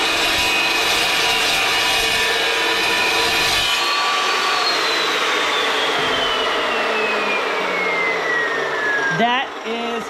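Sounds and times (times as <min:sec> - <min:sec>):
saw motor winding down: 0:00.0 - 0:10.0.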